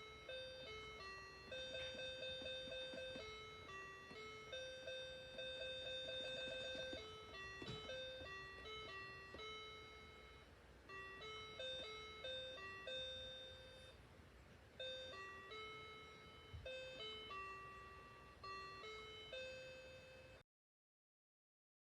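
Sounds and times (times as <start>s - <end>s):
electronic keyboard melody: 0.0s - 20.4s.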